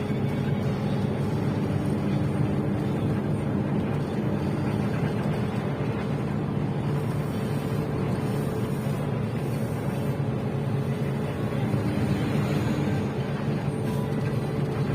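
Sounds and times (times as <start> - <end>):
low engine drone: 0.0 - 14.9.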